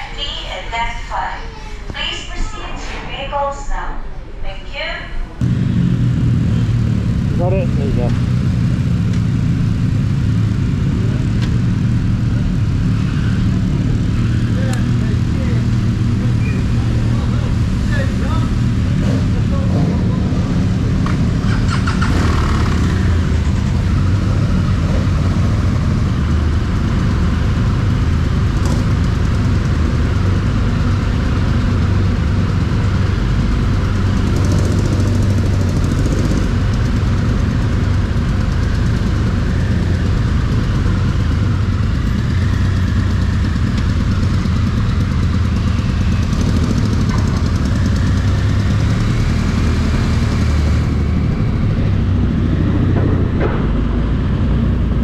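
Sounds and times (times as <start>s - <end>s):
motorcycle engine running at low revs: 5.4s - 55.0s.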